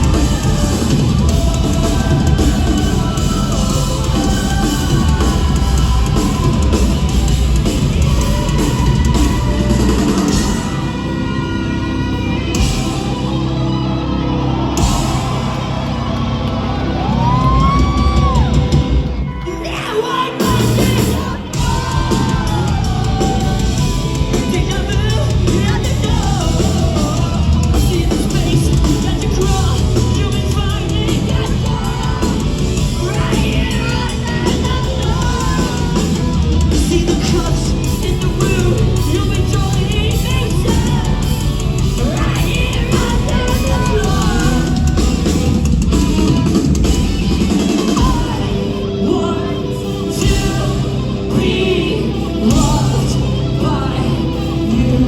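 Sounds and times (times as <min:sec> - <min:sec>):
guitars: 0:00.0 - 0:55.0
live rock band playing: 0:00.0 - 0:55.0
pounding drum kit: 0:00.0 - 0:55.0.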